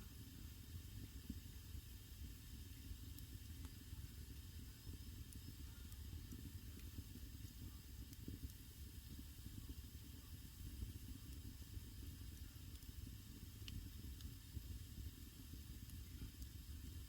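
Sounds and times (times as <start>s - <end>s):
fire crackles: 0.0s - 17.0s
wood fire rumbling and hissing: 0.0s - 17.0s.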